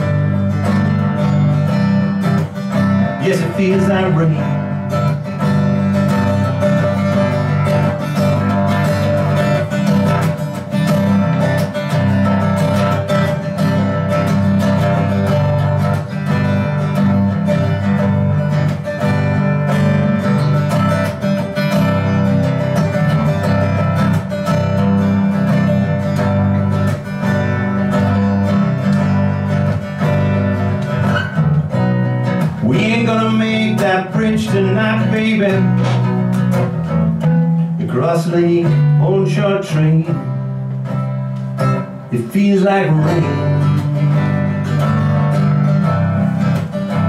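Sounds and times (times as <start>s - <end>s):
slow blues guitar music: 0.0s - 47.0s.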